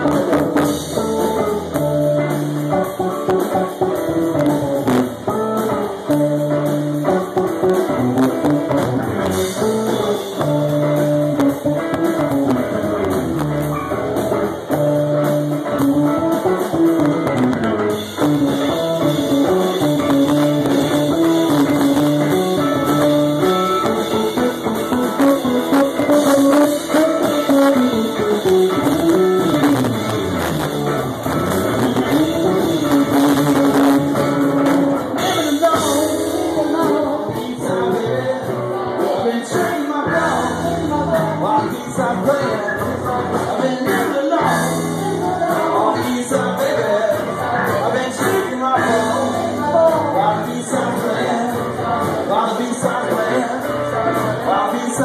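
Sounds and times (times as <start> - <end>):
drum kit: 0.0 - 55.0
electric bass: 0.0 - 55.0
electric guitar: 0.0 - 55.0.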